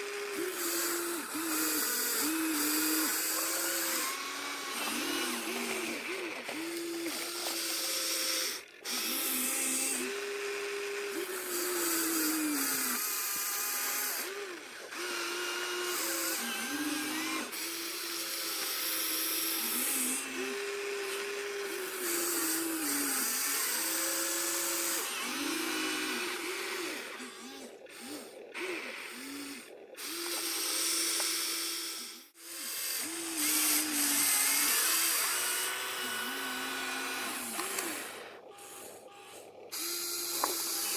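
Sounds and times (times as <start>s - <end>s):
toy electric motors whining: 0.0s - 40.9s.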